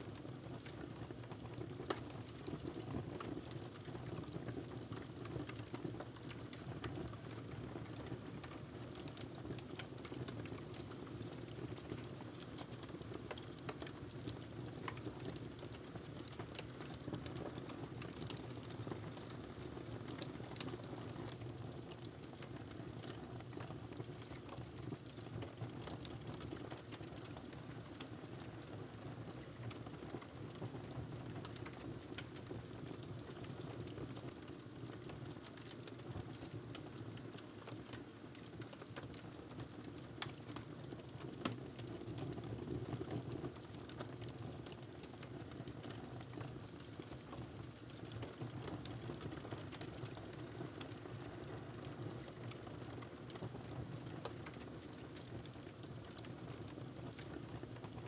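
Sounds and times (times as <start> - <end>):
wood fire crackling: 8.4 - 28.4, 29.0 - 58.0.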